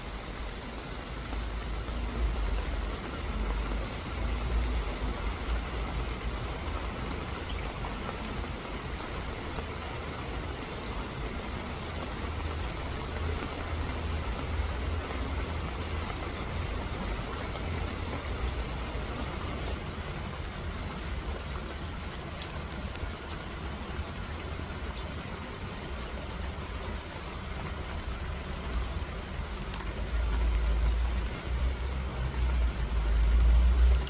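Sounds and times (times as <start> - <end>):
rain falling: 0.0 - 34.0
drips ticking: 0.3 - 34.0.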